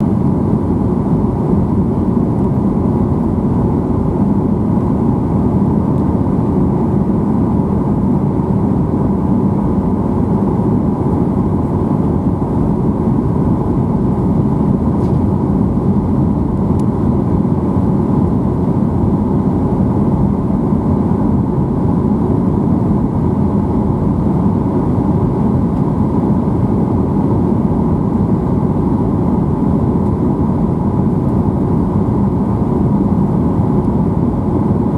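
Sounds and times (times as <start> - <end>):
airplane engines roaring in flight: 0.0 - 34.9.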